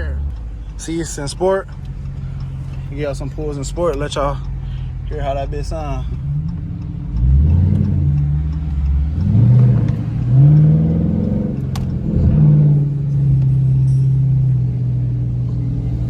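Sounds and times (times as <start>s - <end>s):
car engine accelerating through gears: 0.0s - 16.0s.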